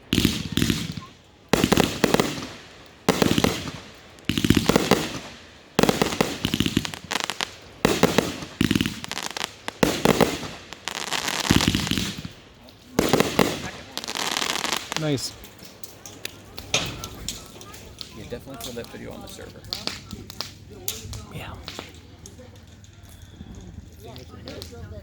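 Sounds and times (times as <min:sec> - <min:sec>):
fireworks bangs: 0:00.0 - 0:24.9
fireworks crackling: 0:00.0 - 0:25.0.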